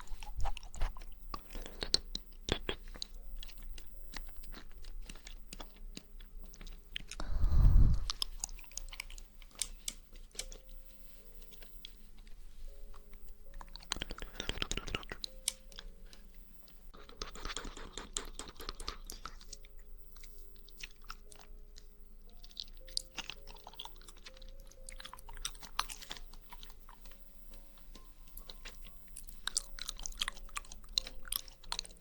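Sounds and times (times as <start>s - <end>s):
person chewing jelly: 0.0s - 32.0s.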